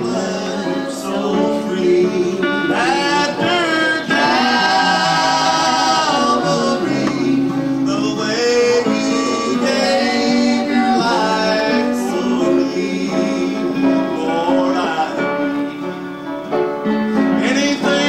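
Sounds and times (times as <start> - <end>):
gospel hymn singing: 0.0 - 18.0
instrumental accompaniment: 0.0 - 18.0.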